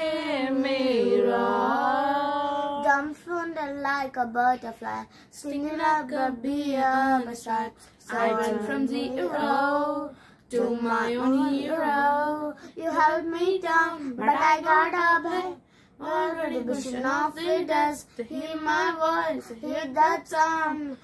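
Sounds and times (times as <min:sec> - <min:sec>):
girls singing unaccompanied: 0:00.0 - 0:03.2, 0:05.4 - 0:21.0.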